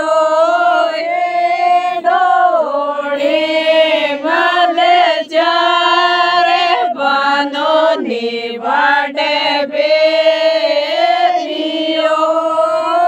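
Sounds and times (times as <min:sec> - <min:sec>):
person singing folk song: 0:00.0 - 0:13.0.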